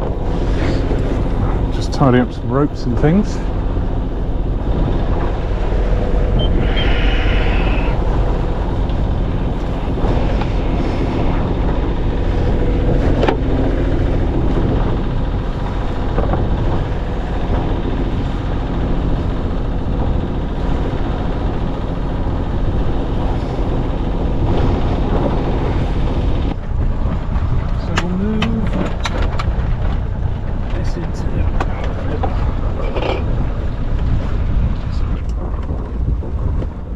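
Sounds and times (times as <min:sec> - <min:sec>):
boat engine drone: 0:00.0 - 0:36.9.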